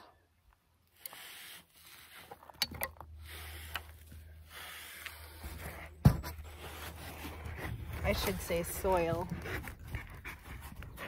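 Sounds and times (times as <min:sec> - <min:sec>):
rubbing and scraping soil and foam board: 0:00.6 - 0:11.0.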